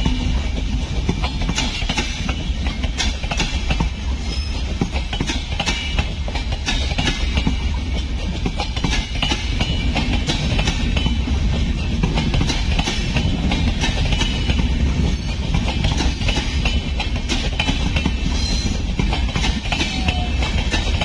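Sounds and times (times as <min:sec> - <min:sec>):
train coaches rumbling past: 0:00.0 - 0:21.0
wheels clattering over rail joints: 0:00.0 - 0:21.0.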